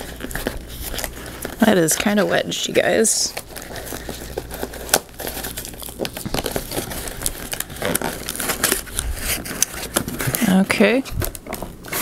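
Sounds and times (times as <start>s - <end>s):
cardboard box tearing and creaking: 0.0s - 12.0s.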